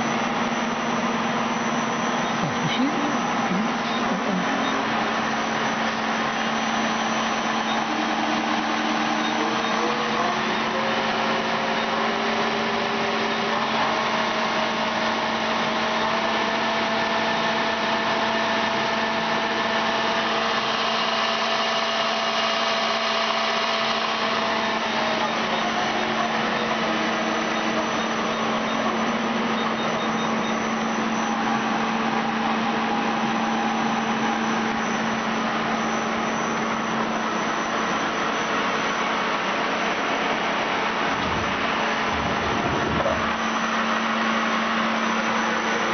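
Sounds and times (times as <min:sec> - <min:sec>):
lathe machine hum: 0:00.0 - 0:45.9
motor whine: 0:00.0 - 0:45.9.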